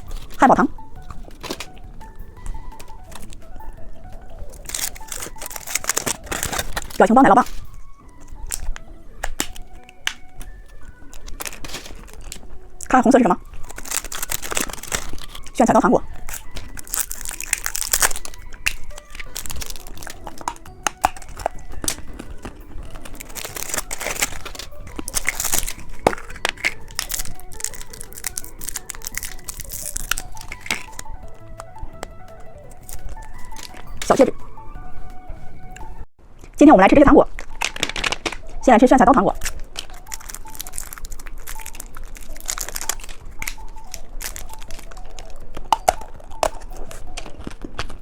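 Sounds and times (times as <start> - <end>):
plastic packaging crinkling and tearing: 0.0 - 36.6, 37.3 - 48.0.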